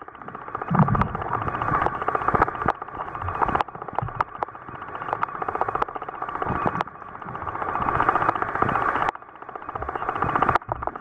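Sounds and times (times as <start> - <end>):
underwater crackling: 0.1 - 11.0
sharp underwater clicks: 0.2 - 11.0.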